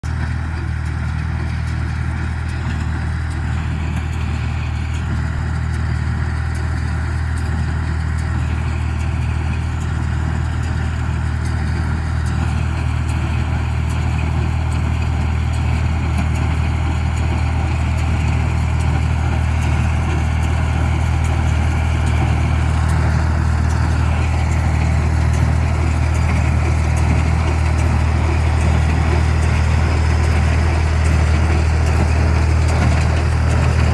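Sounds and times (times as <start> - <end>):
baler mechanical clatter: 0.0 - 33.9
low engine drone: 0.0 - 33.9.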